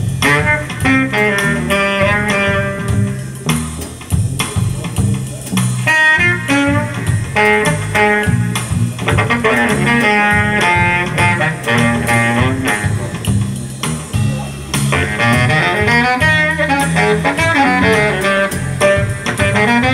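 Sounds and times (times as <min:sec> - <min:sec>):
guitar music with bass line: 0:00.0 - 0:19.9.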